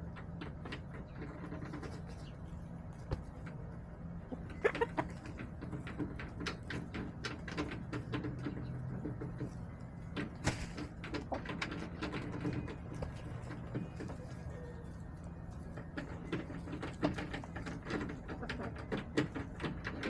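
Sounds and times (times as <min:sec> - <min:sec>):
hens clucking softly: 0:00.0 - 0:20.0
steady low hum: 0:00.0 - 0:20.0.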